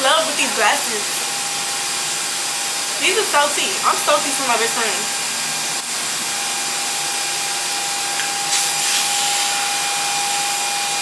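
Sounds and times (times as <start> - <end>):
electric air blower whirring: 0.0 - 11.0.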